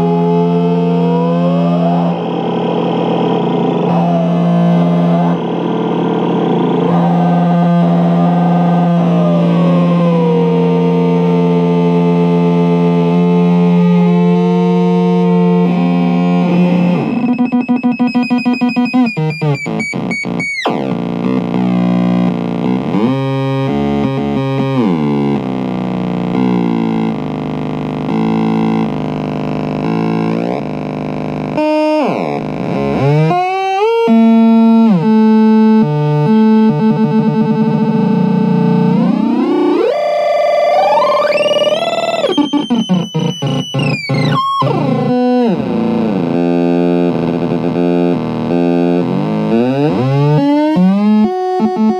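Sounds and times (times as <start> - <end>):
noise synth buzzing: 0.0 - 51.9.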